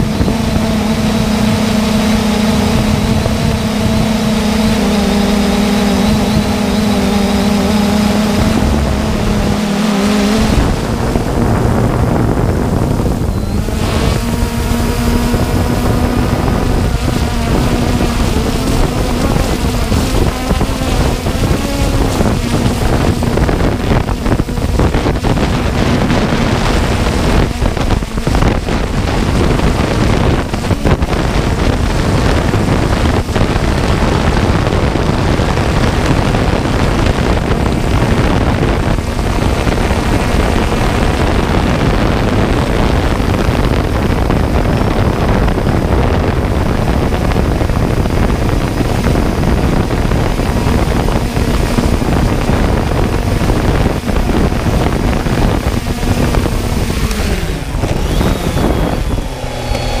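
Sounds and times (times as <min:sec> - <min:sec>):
drone propeller noise: 0:00.0 - 1:00.0
wind buffeting: 0:00.0 - 1:00.0.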